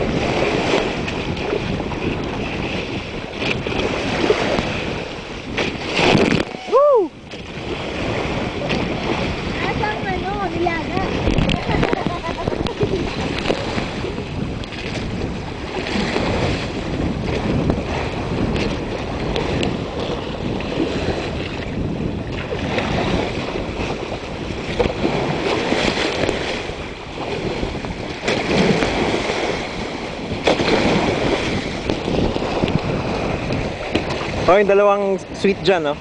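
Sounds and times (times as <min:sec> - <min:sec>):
loud water splashes: 0:00.0 - 0:36.0
sea water rushing against hull: 0:00.0 - 0:36.0
wind buffeting microphone: 0:00.0 - 0:36.0.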